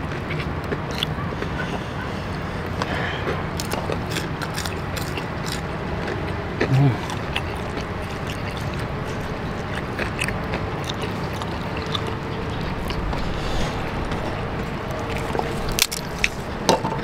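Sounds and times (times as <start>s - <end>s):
steady background noise: 0.0s - 17.0s
hands picking at food: 0.1s - 14.3s, 14.9s - 16.8s.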